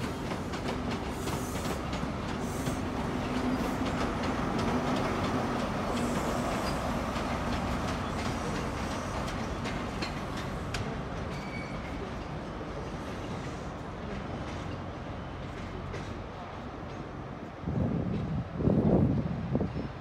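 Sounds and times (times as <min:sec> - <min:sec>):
train wheels clicking over rail joints: 0:00.0 - 0:18.4
train low hum: 0:00.0 - 0:20.0.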